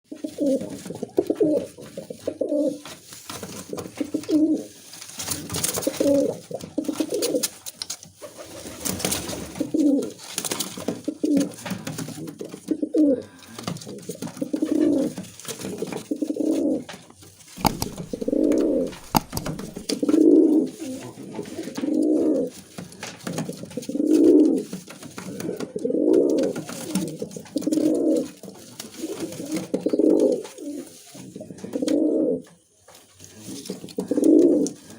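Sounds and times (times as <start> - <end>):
pigeons cooing: 0.1 - 3.0, 3.6 - 7.5, 8.2 - 17.0, 17.6 - 34.9.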